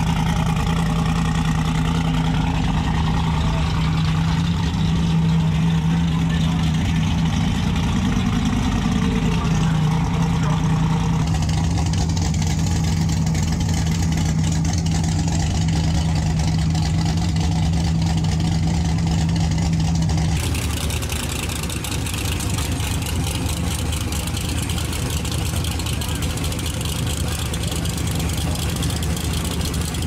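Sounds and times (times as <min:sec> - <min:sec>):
race car engine idling: 0:00.0 - 0:30.0.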